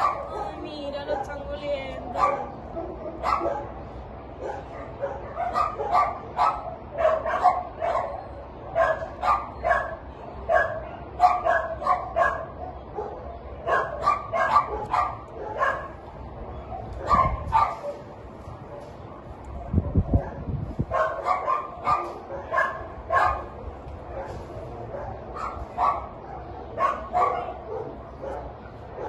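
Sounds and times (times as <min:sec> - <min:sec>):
dog barking: 0:00.0 - 0:01.4, 0:02.1 - 0:03.8, 0:04.4 - 0:16.0, 0:16.6 - 0:18.1, 0:19.6 - 0:29.0.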